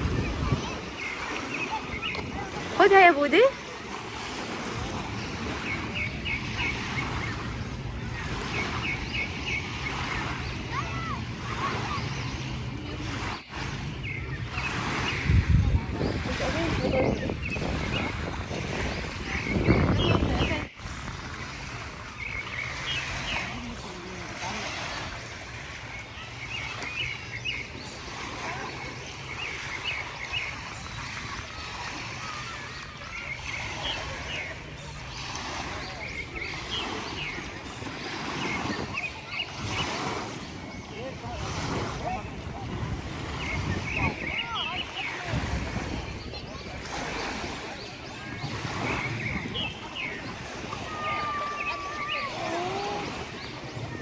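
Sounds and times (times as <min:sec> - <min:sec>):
sea surf washing on beach: 0:00.0 - 0:54.0
wind on microphone: 0:00.0 - 0:54.0.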